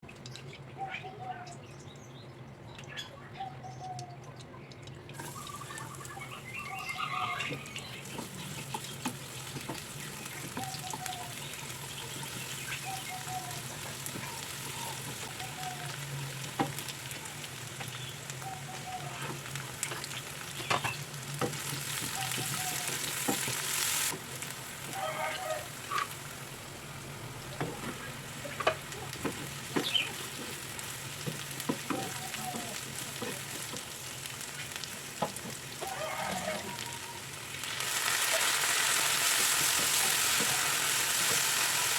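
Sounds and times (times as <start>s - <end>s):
food sizzling in hot oil: 5.2s - 41.9s.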